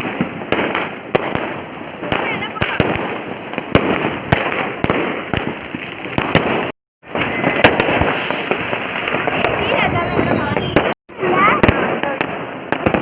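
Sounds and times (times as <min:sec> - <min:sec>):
firecrackers crackling: 0:00.0 - 0:13.0
sharp firework bangs: 0:00.0 - 0:13.0.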